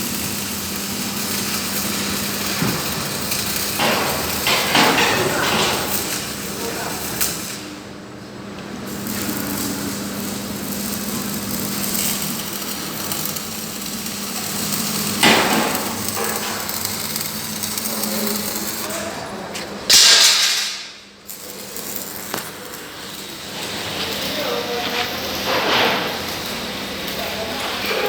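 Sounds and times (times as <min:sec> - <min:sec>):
workshop noise: 0:00.0 - 0:28.0.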